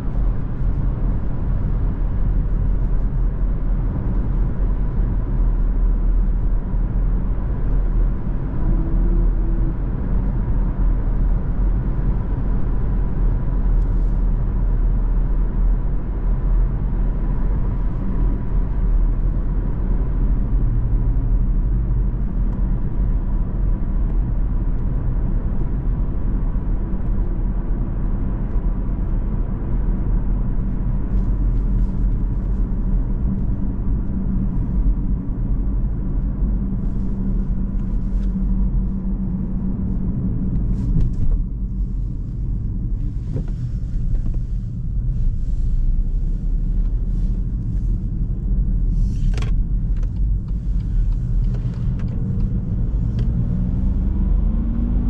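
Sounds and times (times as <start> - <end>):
car engine rumble in cabin: 0.0 - 55.0
tyre and road noise: 0.0 - 55.0.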